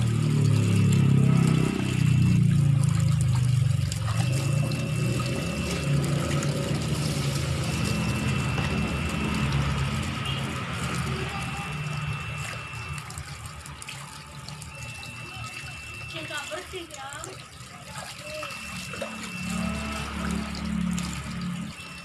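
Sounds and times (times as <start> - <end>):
tap water pouring into basin: 0.0 - 22.0.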